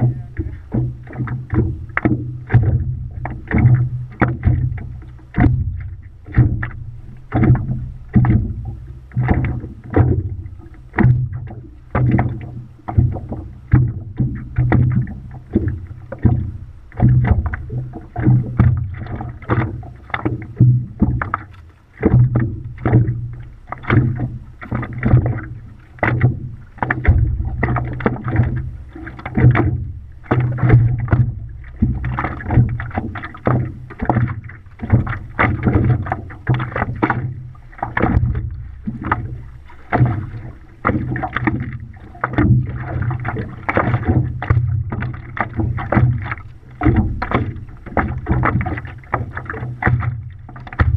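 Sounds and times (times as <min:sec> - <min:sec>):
paddle splashing water: 0:00.0 - 0:50.9.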